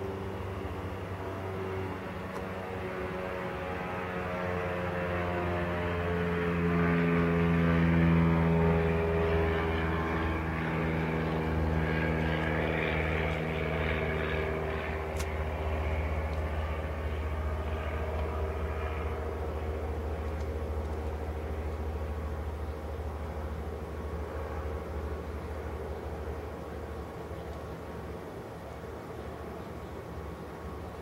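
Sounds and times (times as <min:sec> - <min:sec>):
propeller airplane droning: 0:00.0 - 0:31.0
steady low hum: 0:00.0 - 0:31.0.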